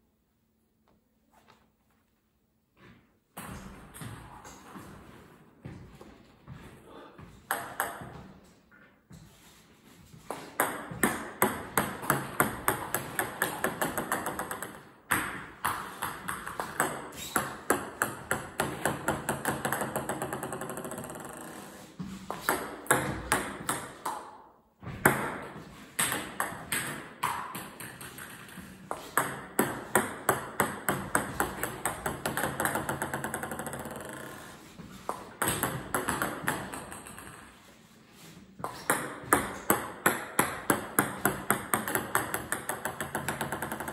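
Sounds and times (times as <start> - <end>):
table tennis balls bouncing: 2.8 - 6.6, 7.2 - 9.5, 10.1 - 43.9.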